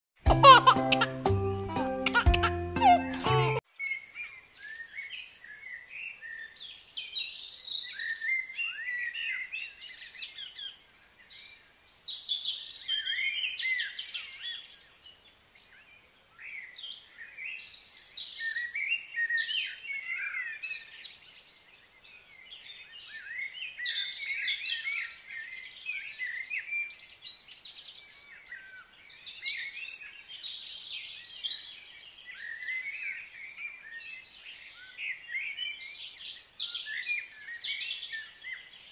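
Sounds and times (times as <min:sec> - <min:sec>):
birds singing and chirping: 0:00.4 - 0:38.9.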